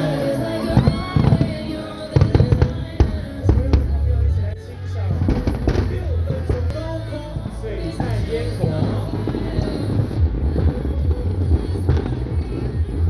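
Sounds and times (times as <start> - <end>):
fireworks banging: 0.0 - 13.0
loud music with deep bass: 0.0 - 13.0.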